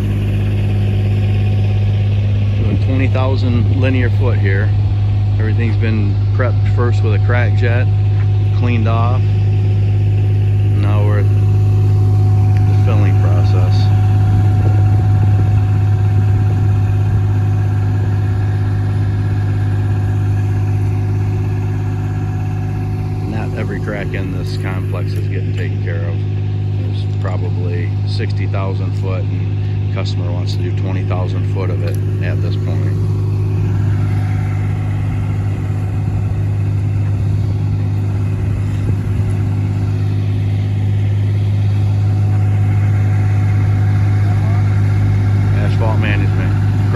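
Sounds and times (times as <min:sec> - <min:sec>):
engine humming steadily: 0:00.0 - 0:46.9.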